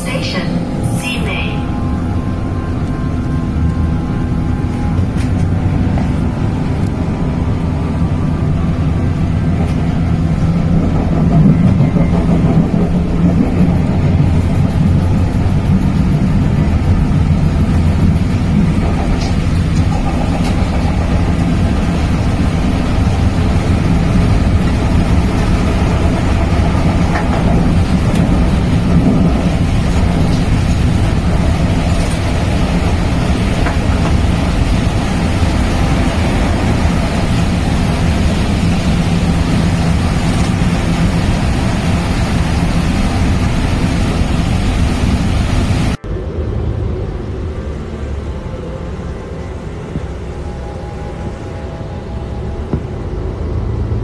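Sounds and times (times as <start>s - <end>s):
vehicle rumble from inside: 1.0s - 54.0s.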